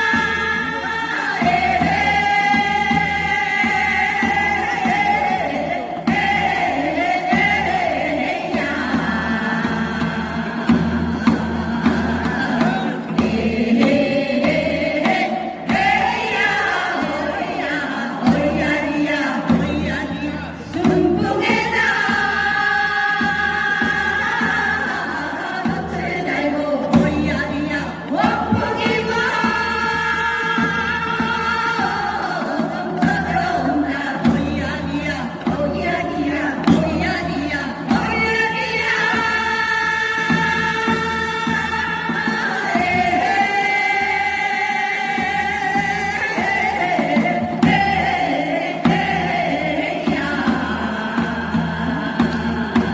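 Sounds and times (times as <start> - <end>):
group of voices singing: 0.0 - 52.9.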